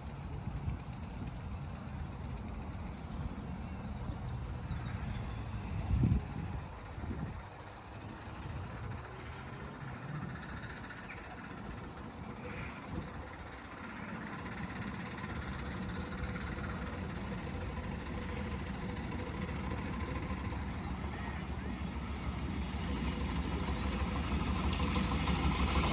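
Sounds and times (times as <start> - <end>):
miniature train rumbling: 0.0 - 25.9.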